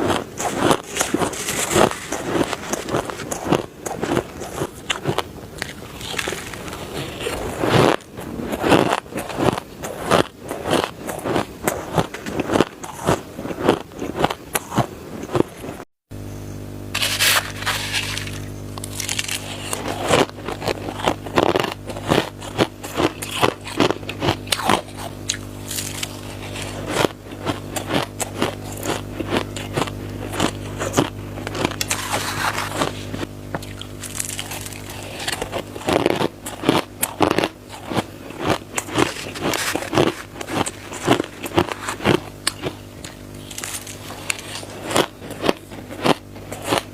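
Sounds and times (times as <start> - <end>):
crunching shaved ice: 0.0 - 15.8, 16.9 - 46.9
steady low hum: 0.0 - 46.9.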